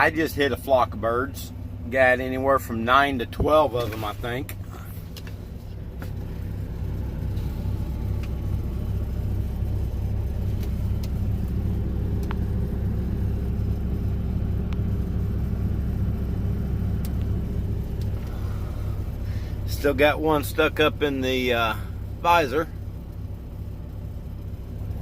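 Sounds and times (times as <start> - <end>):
road noise: 0.0 - 25.0
truck diesel engine rumble: 0.0 - 25.0.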